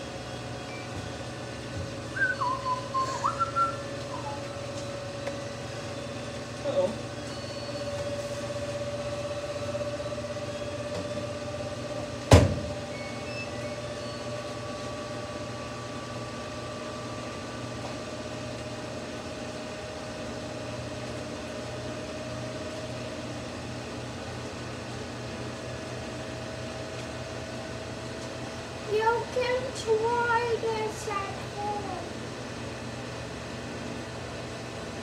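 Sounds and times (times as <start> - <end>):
washing machine motor hum: 0.0 - 35.0.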